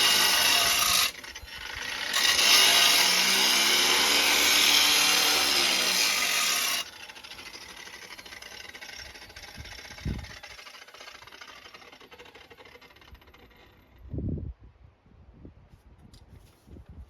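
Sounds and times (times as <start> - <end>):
angle grinder coasting down: 0.0 - 14.1.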